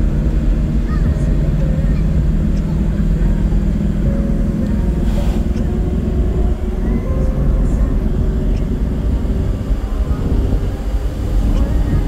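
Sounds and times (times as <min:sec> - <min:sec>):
vehicle engine running: 0:00.0 - 0:12.0
wind and road noise: 0:00.0 - 0:12.0.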